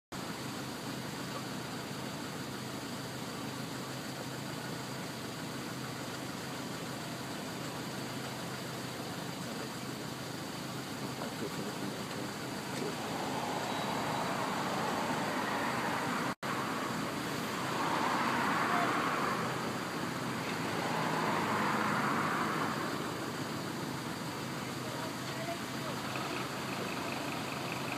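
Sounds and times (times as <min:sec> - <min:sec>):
fire engine running: 0:00.1 - 0:27.9.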